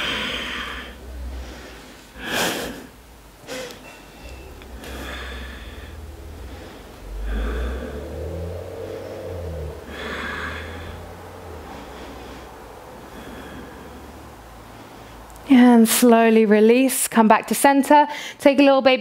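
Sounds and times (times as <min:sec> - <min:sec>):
loud breathing: 0:00.0 - 0:15.3.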